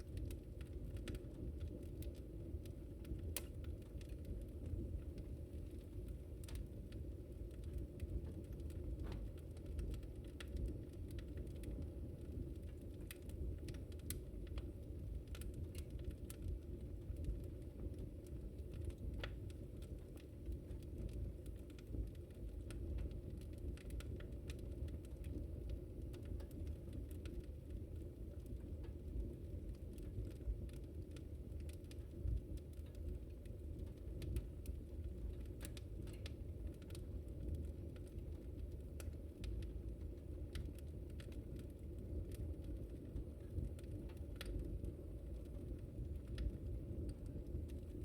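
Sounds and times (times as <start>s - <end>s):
burning wood crackling and popping: 0.0s - 48.0s.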